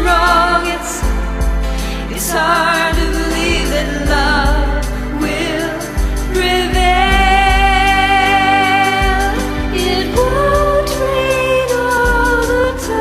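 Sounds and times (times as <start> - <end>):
bass: 0.0 - 13.0
keyboard accompaniment: 0.0 - 13.0
woman singing pop ballad: 0.0 - 13.0.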